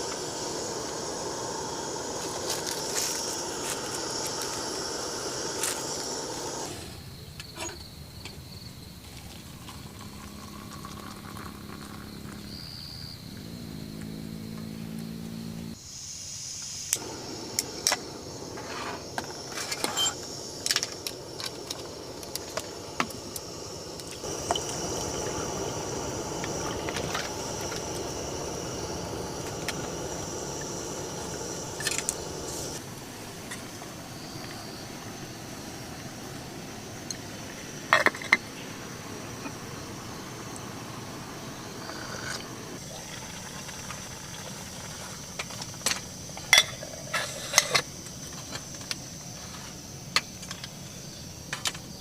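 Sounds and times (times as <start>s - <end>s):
steady hiss: 0.0s - 7.7s, 15.6s - 52.0s.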